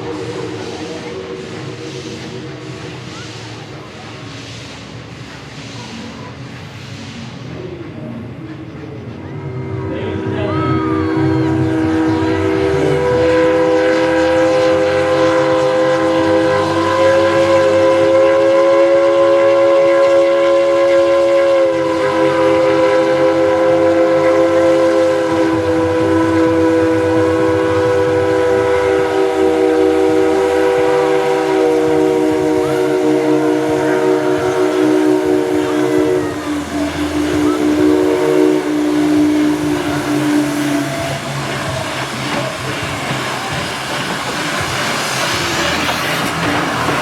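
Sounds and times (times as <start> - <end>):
steam locomotive chime whistle: 9.3 - 47.0.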